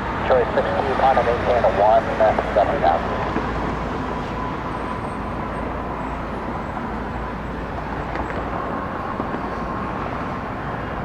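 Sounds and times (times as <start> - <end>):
faint thin engine whine: 0.0 - 11.0
jet engines at takeoff: 0.0 - 11.0.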